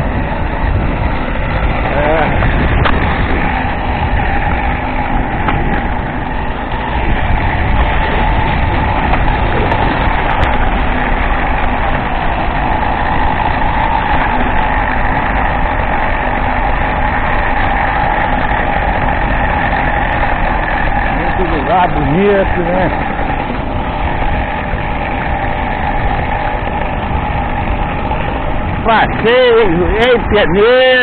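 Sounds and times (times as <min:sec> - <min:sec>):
road rumble: 0:00.0 - 0:31.0
vehicle engine running: 0:00.0 - 0:31.0.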